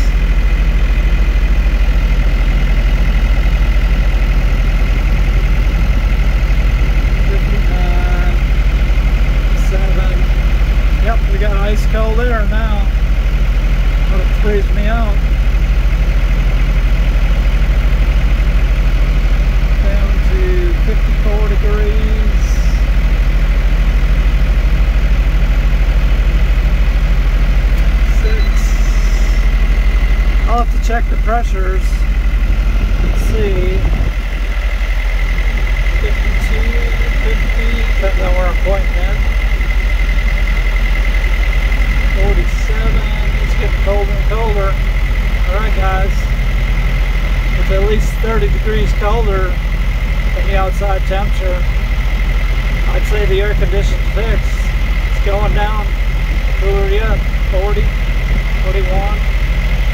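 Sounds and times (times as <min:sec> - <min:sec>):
air conditioning whine: 0:00.0 - 0:59.9
tractor diesel engine idling: 0:00.0 - 0:59.9.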